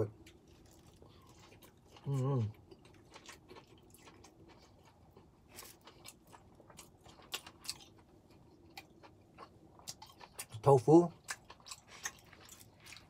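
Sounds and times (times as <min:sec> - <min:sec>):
chewing noodles: 0:00.2 - 0:13.0.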